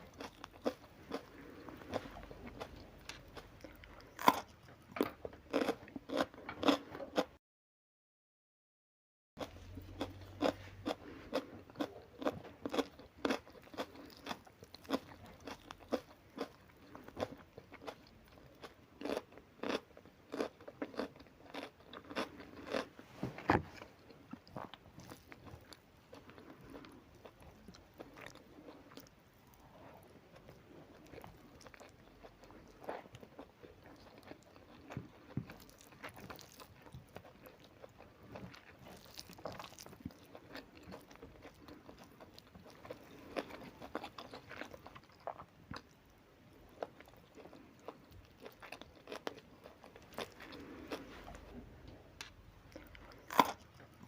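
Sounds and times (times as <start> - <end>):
person chewing crisp food: 0.0 - 7.3, 9.4 - 54.0.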